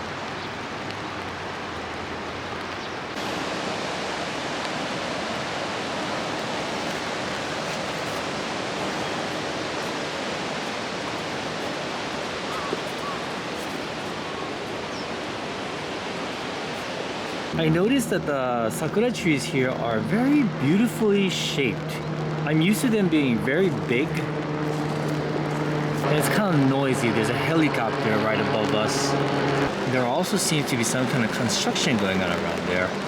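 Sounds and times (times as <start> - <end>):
falling rain: 0.0 - 33.0
flowing river: 0.0 - 33.0.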